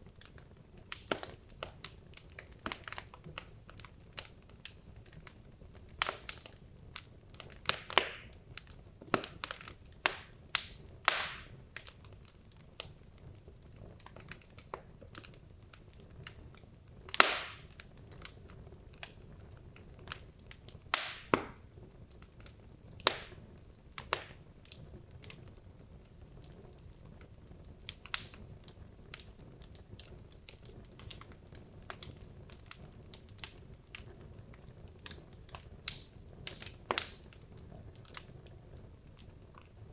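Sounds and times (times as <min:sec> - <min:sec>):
faint low fire rumble: 0:00.0 - 0:39.9
logs crackling and popping: 0:00.0 - 0:39.9.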